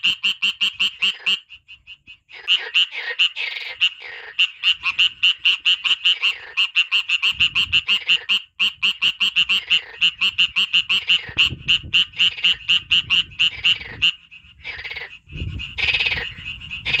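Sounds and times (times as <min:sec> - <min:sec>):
frog calling: 0:00.0 - 0:17.0.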